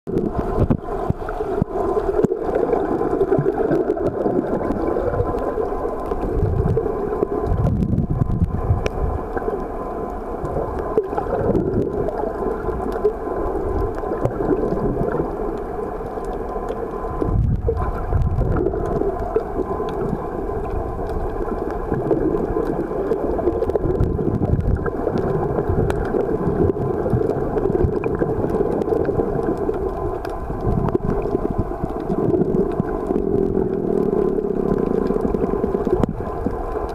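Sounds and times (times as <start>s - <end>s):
muffled underwater drone: 0.1s - 36.9s
underwater surges: 0.1s - 36.9s.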